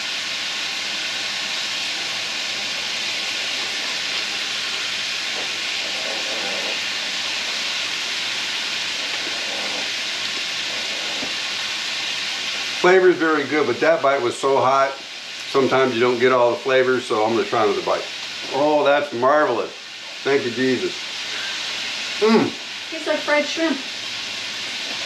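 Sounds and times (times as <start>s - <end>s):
fish sizzling in hot fat: 0.0s - 25.0s.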